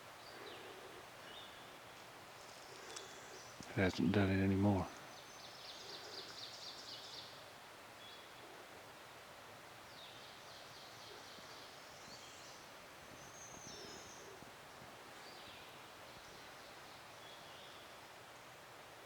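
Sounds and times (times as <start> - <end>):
faint background hiss: 0.0 - 19.0.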